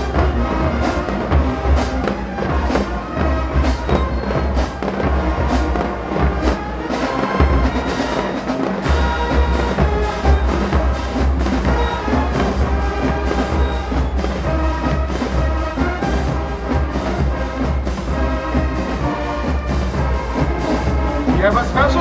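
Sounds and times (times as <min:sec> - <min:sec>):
brass horns playing: 0:00.0 - 0:22.0
marching drums beating: 0:00.0 - 0:22.0.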